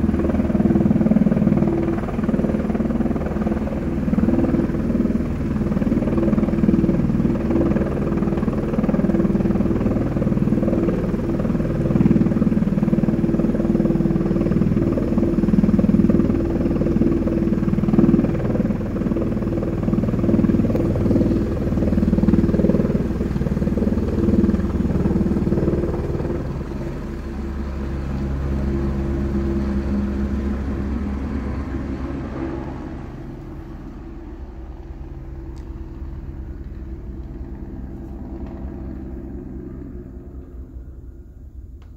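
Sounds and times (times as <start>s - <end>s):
helicopter rotor and engine: 0.0s - 41.9s.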